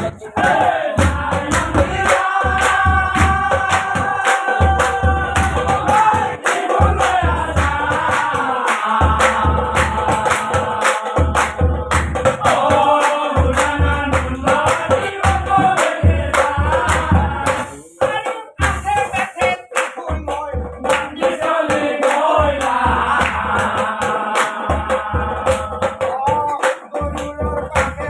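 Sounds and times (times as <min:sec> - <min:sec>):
men chanting in chorus: 0:00.0 - 0:28.0
sharp drum strikes: 0:00.0 - 0:28.0.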